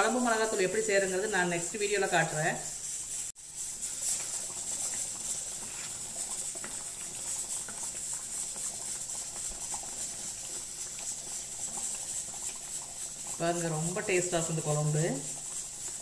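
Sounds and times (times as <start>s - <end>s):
gravy bubbling: 0.0s - 16.0s
wooden spatula scraping a pan: 0.0s - 16.0s.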